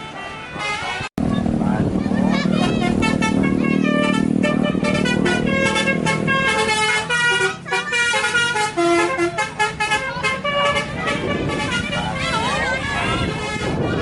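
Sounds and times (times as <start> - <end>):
multi-tone air horn tune: 0.0 - 1.1, 2.6 - 14.0.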